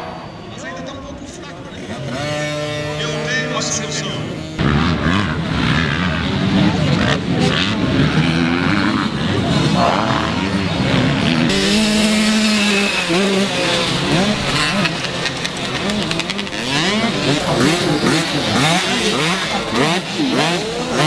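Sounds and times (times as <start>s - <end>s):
motocross bike engines revving: 0.0s - 21.0s.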